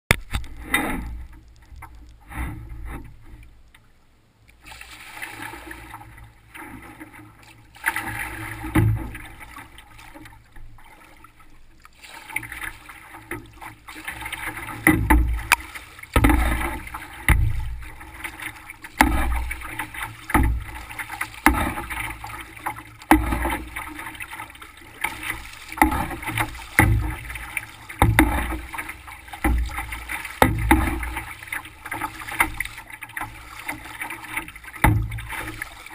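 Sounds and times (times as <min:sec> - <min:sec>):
water lapping against canoe: 0:00.1 - 0:35.9.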